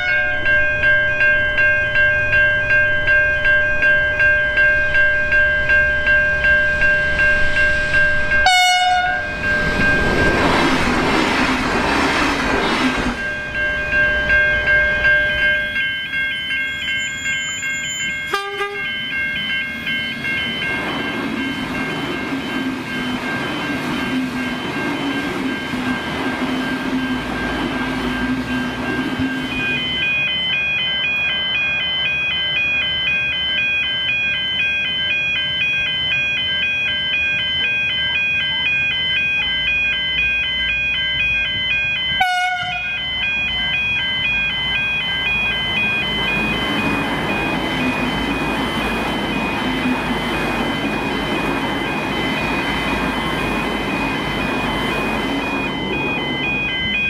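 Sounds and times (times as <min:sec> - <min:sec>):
diesel train passing: 0:00.0 - 0:57.0
steady high tone: 0:00.0 - 0:57.0.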